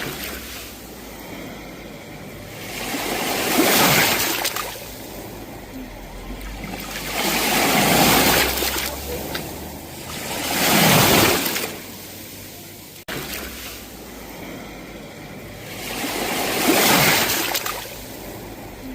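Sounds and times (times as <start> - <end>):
sea waves breaking ashore: 0.0 - 18.9.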